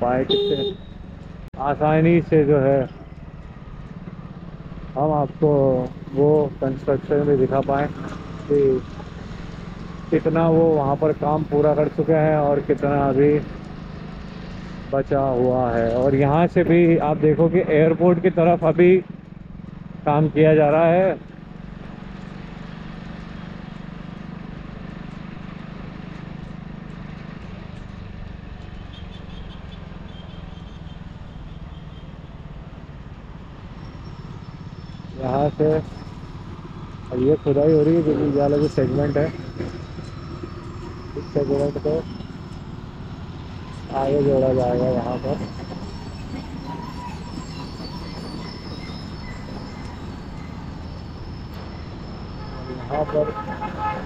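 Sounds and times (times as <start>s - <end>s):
tyres on wet road: 0.0s - 54.0s.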